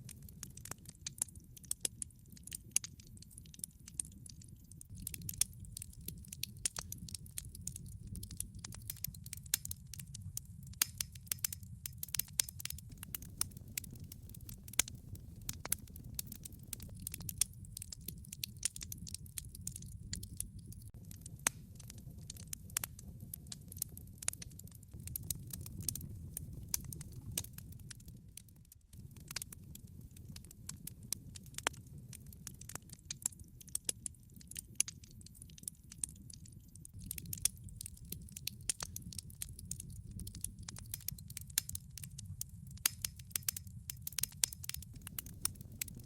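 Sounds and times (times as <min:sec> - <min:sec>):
fire crackling and popping: 0:00.0 - 0:46.0
low fire rumble: 0:00.0 - 0:46.0.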